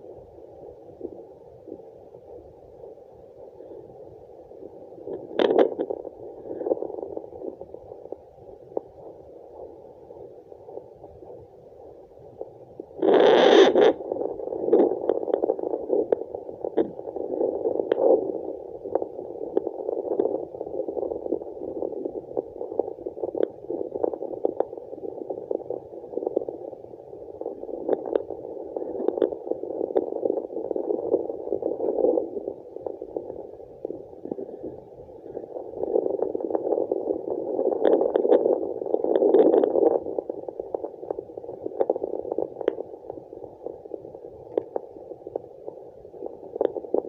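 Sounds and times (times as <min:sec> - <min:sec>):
crackling clicks: 0:05.0 - 0:09.7, 0:12.4 - 0:47.0.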